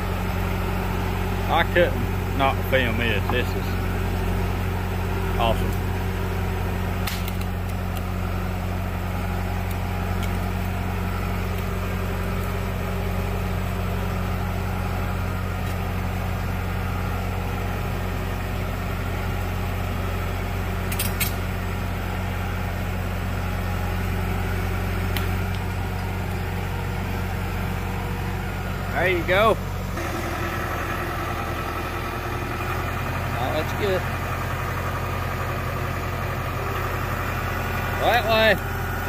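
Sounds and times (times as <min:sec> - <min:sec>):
diesel engine running steadily: 0:00.0 - 0:39.0.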